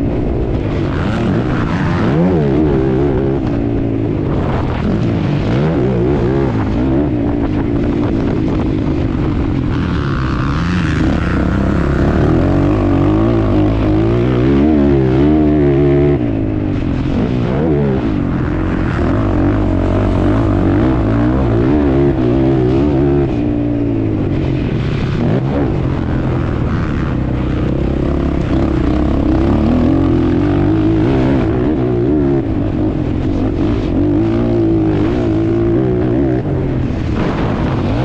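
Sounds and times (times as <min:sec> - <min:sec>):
quad bike engine revving: 0:00.0 - 0:38.0.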